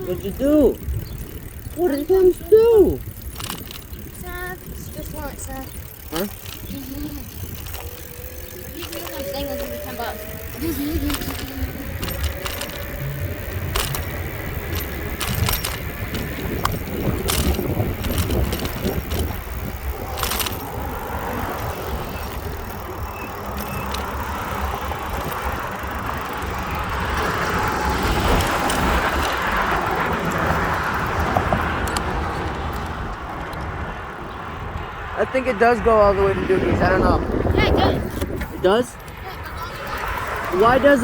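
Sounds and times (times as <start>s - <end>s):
bicycle clicks and rattles: 0.0s - 35.1s, 37.0s - 41.0s
wind rumble on microphone: 0.0s - 35.2s, 35.8s - 38.6s.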